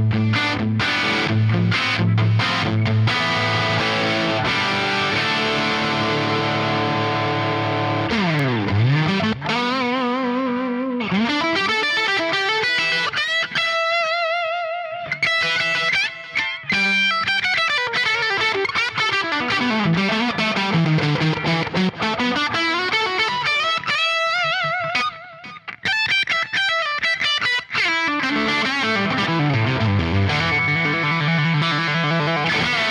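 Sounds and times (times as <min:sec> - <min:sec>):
overdriven electric guitar: 0:00.0 - 0:32.9.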